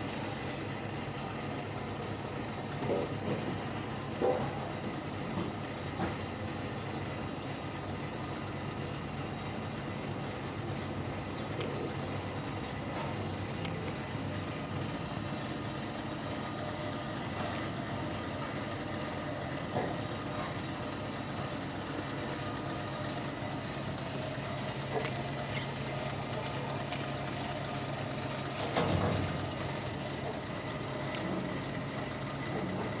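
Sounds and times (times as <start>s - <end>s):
low motor hum: 0.0s - 33.0s.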